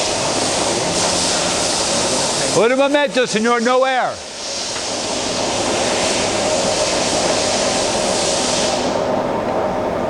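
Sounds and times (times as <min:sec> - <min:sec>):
loud hiss: 0:00.0 - 0:09.1
lathe running hum: 0:00.0 - 0:10.0.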